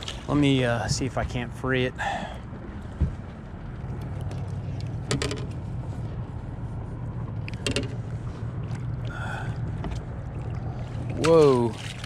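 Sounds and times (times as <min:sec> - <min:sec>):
low handling rumble: 0:00.0 - 0:12.0.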